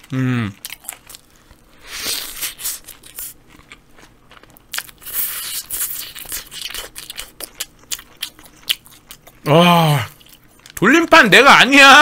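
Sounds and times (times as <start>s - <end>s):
biting and chewing burger: 0.0s - 11.1s.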